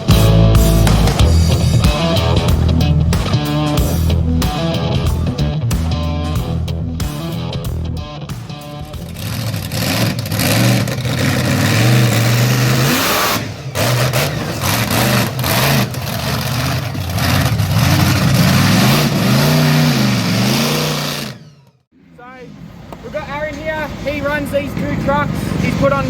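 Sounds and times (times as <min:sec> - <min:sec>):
truck engine revving: 0:00.0 - 0:21.9, 0:22.5 - 0:26.0.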